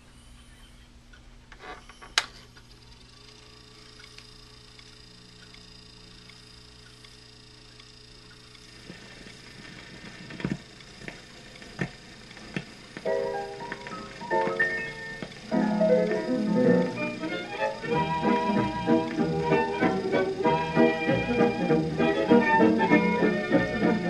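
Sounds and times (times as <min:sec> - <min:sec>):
faint phonograph hum: 0:00.0 - 0:24.0
record surface hiss and crackle: 0:00.0 - 0:24.0.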